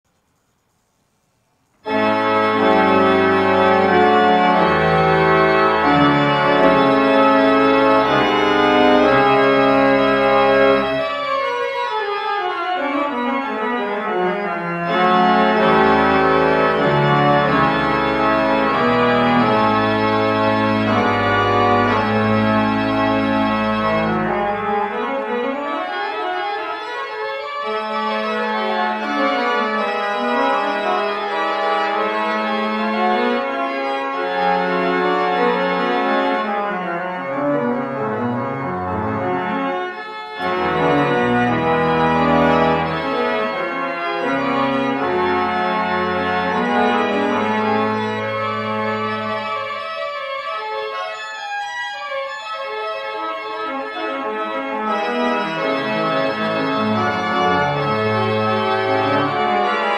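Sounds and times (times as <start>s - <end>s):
pipe organ chords: 1.8s - 59.9s
deep organ pedal bass: 1.9s - 51.4s, 52.0s - 59.9s.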